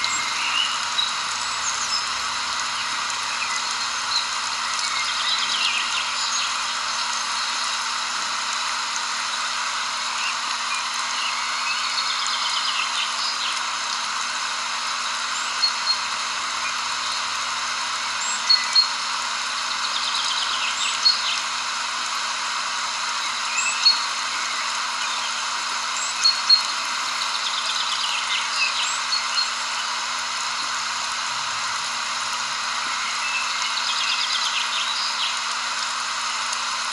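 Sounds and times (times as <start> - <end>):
birds chirping and trilling: 0.0 - 7.8, 9.2 - 35.4
steady outdoor hiss: 0.0 - 36.9.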